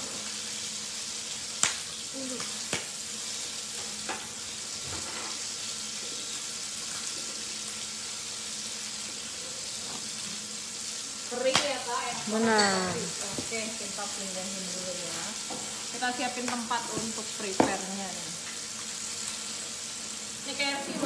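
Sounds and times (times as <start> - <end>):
food sizzling on a grill pan: 0.0 - 21.0.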